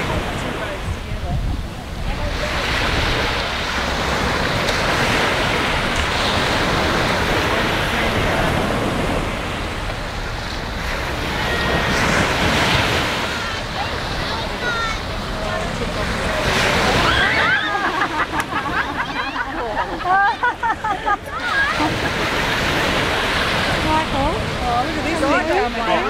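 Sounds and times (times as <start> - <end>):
sea water washing in shallows: 0.0 - 26.0
wind buffeting microphone: 0.0 - 26.0.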